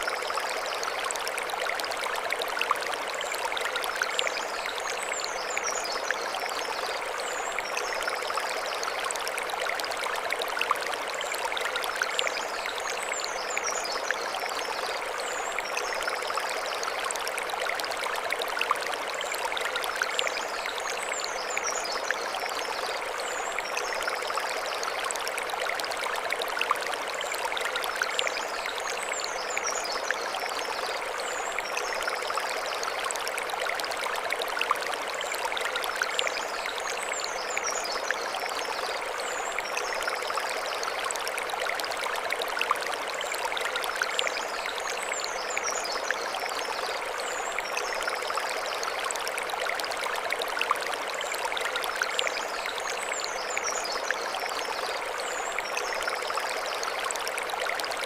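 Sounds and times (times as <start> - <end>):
mountain stream over stones: 0.0 - 58.0.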